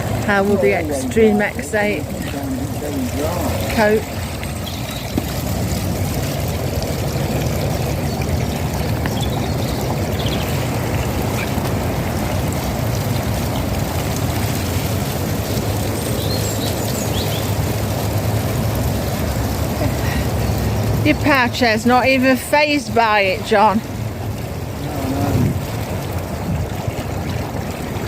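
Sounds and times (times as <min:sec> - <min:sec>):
tyres through mud: 0:00.0 - 0:28.0.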